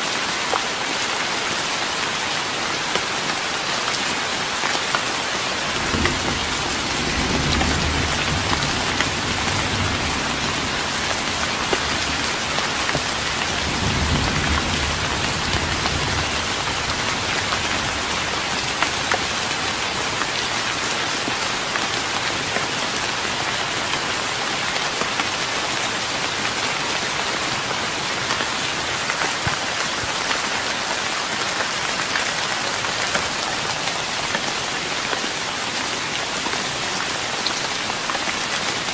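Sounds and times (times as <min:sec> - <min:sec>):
rain on a wooden deck: 0:00.0 - 0:38.9.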